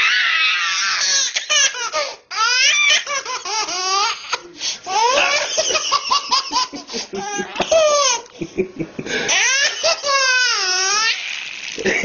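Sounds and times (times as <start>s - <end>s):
baby laughing: 0.9s - 8.5s, 9.1s - 12.0s.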